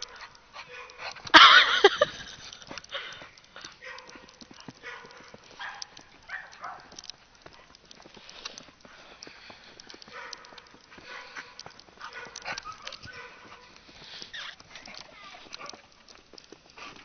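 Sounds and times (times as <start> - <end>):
footsteps crunching through snow: 3.2 - 17.0.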